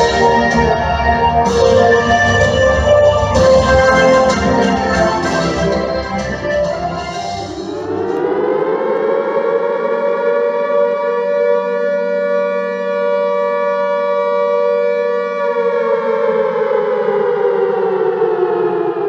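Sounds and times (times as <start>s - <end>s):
air-raid siren wailing: 0.0s - 19.0s.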